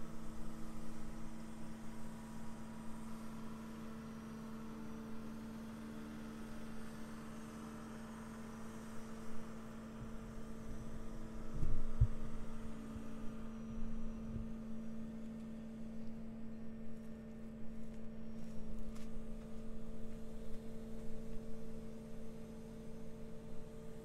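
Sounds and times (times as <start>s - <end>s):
heavy equipment engine hum: 0.0s - 24.0s.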